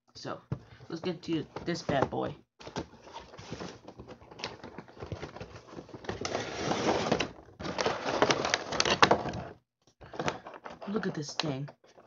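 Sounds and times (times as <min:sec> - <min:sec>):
plastic and cardboard crinkling: 0:00.6 - 0:12.0.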